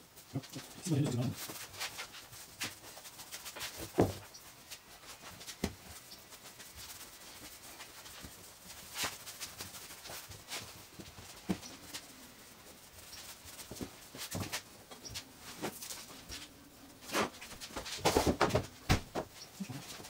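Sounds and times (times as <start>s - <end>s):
hands rubbing and rolling dough: 0.0s - 20.0s.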